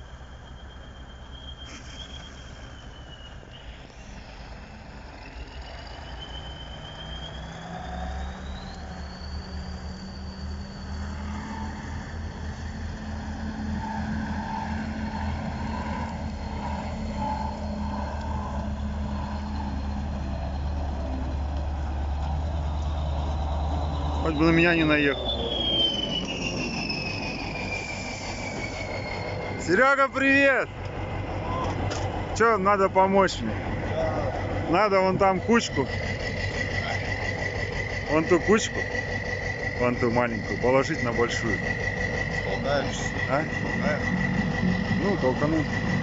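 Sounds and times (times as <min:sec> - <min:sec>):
diesel tractor engine approaching: 0:00.0 - 0:46.0
thin high whine: 0:00.0 - 0:46.0.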